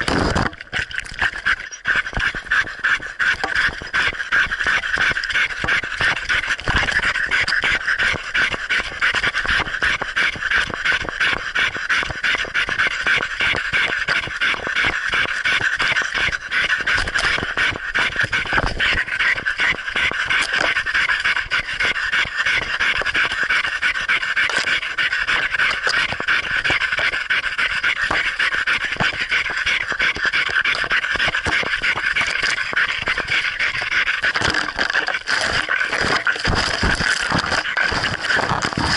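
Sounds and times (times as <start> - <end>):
dog panting: 1.2 - 38.9.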